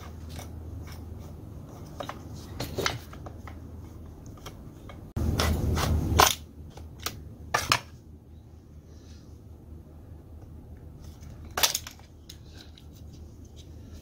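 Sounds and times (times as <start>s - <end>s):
rustling and handling noise: 0.0s - 9.5s, 10.3s - 14.0s.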